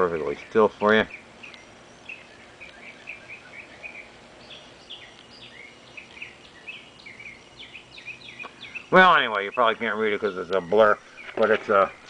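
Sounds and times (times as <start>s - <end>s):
birds chirping: 0.0s - 12.0s
faint outdoor hiss: 0.0s - 12.0s.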